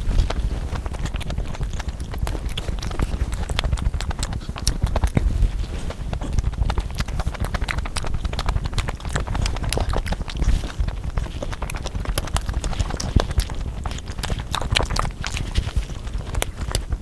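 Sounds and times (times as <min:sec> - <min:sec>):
chewing and wet mouth smacks: 0:00.0 - 0:17.0
low steady rumble: 0:00.0 - 0:17.0.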